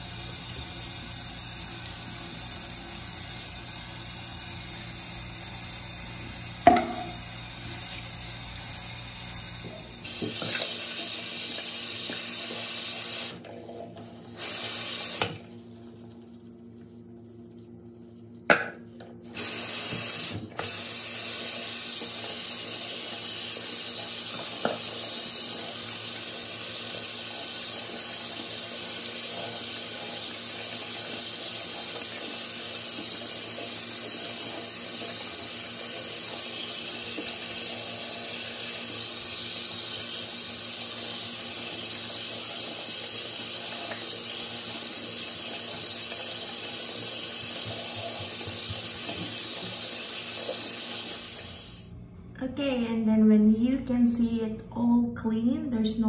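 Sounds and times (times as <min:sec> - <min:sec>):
tap water running into basin: 0:00.0 - 0:16.9, 0:19.3 - 0:51.8.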